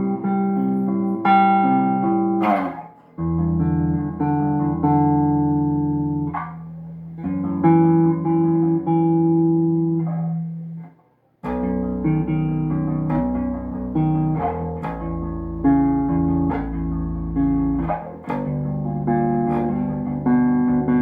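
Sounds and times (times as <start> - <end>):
electric bass guitar: 0.0 - 21.0.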